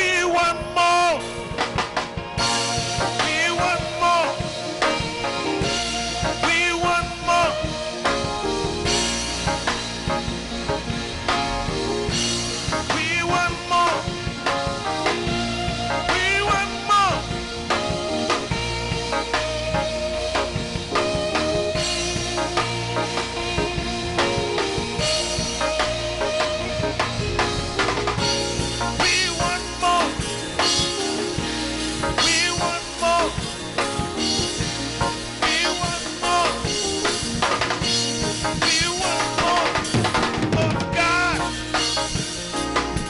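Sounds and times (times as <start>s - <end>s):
drum kit beating: 0.0s - 43.0s
keyboard and bass notes: 0.0s - 43.0s
pitch-bending melody line: 0.0s - 43.0s.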